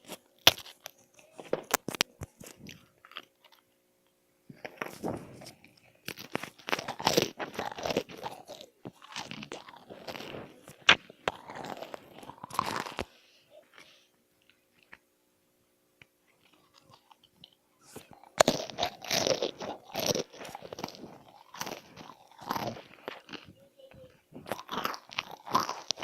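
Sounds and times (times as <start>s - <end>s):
crunching and chewing crisp food: 0.0s - 3.8s, 4.5s - 15.1s, 16.0s - 26.0s.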